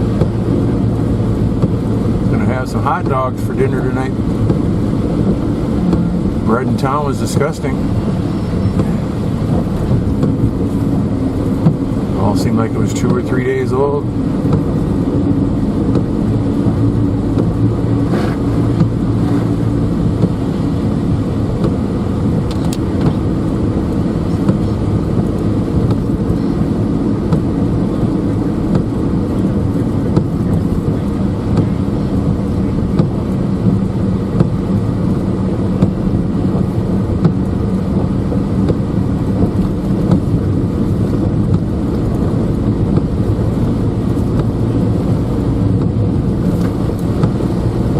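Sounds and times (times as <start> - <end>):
faint engine hum: 0.0 - 47.9
road noise rumble: 0.0 - 47.9.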